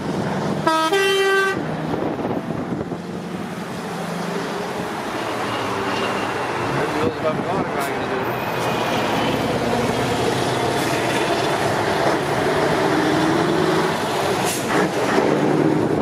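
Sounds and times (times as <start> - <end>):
truck engines running: 0.0 - 16.0.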